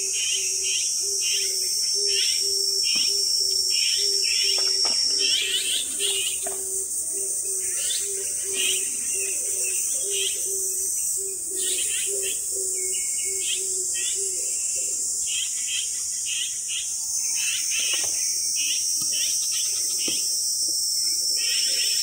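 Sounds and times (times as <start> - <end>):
birds chirping: 0.0 - 20.4
insects chorus: 0.0 - 22.0.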